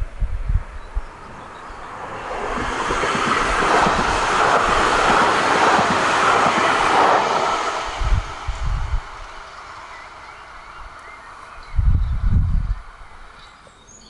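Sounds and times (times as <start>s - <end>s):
light-rail train passing: 0.0s - 13.9s.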